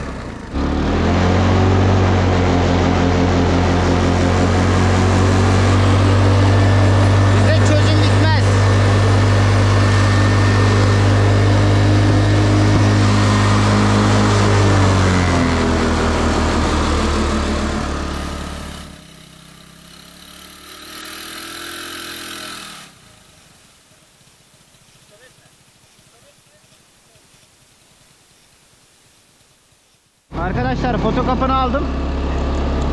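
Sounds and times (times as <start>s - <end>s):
atv engine running: 0.0s - 28.8s, 30.3s - 32.9s.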